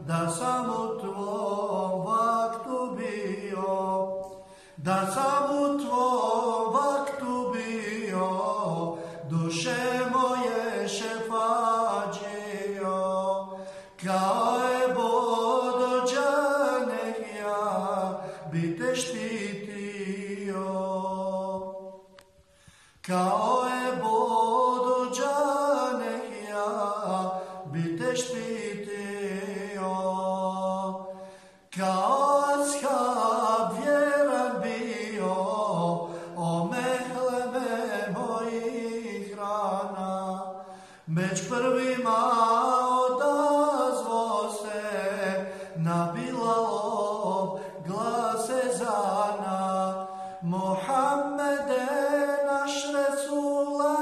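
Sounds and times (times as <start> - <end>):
man singing unaccompanied: 0.0 - 22.2, 23.0 - 54.0.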